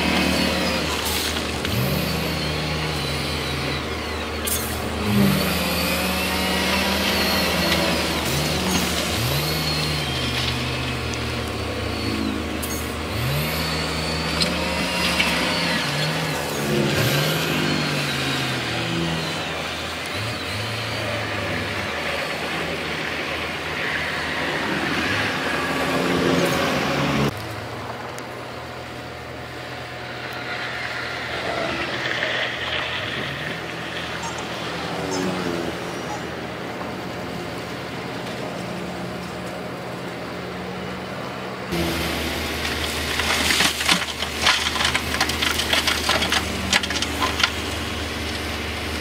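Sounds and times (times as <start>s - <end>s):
heavy diesel engines revving: 0.0s - 49.0s.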